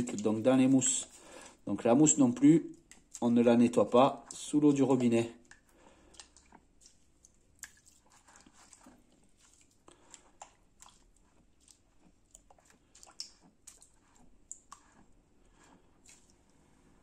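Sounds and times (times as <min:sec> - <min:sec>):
sponge squelching in water: 0:00.0 - 0:17.0.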